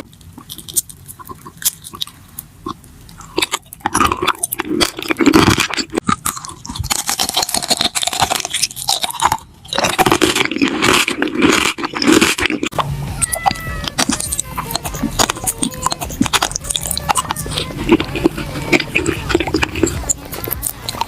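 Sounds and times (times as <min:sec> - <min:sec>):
crunchy chewing: 0:00.0 - 0:21.0.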